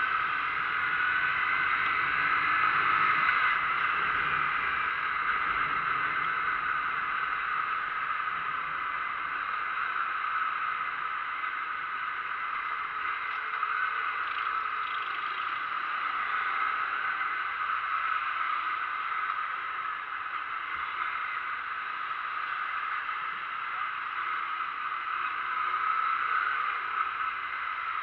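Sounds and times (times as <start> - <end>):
rain hiss: 0.0 - 28.0
wet road noise from moving vehicle: 0.0 - 28.0.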